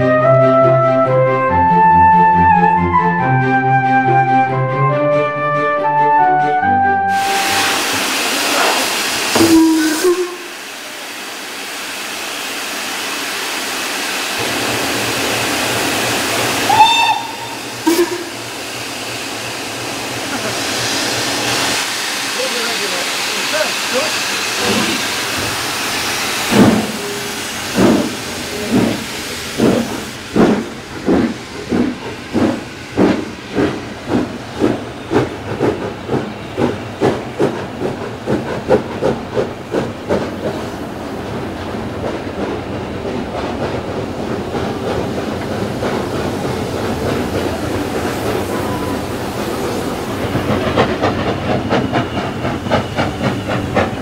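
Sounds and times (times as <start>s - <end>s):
train running noise: 0.0s - 54.0s
steam hissing: 7.1s - 54.0s
steam locomotive exhaust chuffs: 7.1s - 54.0s.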